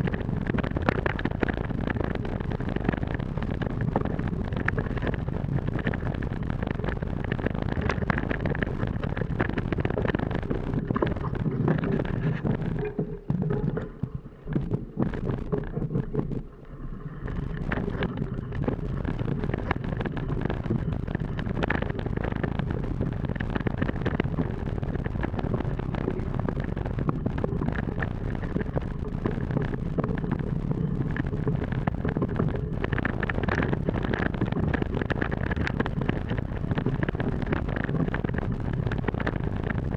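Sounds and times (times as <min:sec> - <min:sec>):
bike tyre rumble: 0:00.0 - 0:39.9
wind buffeting microphone: 0:00.0 - 0:39.9.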